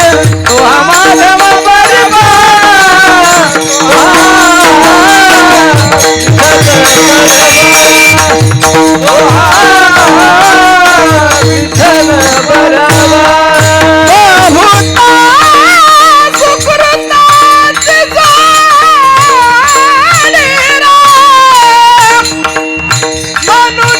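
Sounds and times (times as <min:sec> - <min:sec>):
drum strokes: 0:00.0 - 0:23.9
jingling percussion: 0:00.0 - 0:23.9
man singing ornamented notes: 0:00.0 - 0:23.9.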